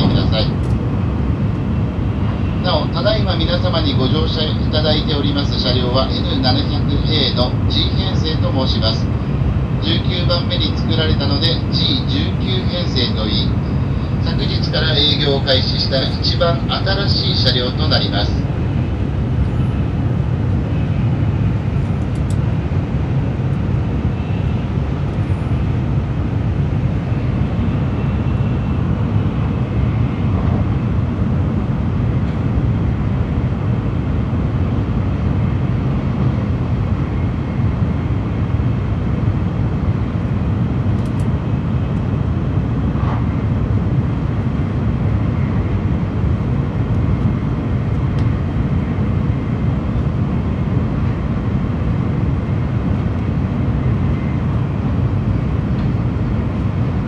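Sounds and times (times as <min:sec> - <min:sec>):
train cabin rumble and hiss: 0:00.0 - 0:57.0.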